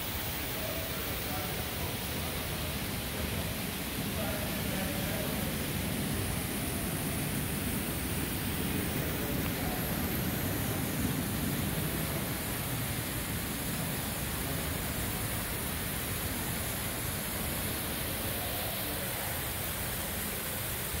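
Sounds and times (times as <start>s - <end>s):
water pouring down waterfall: 0.0s - 21.0s.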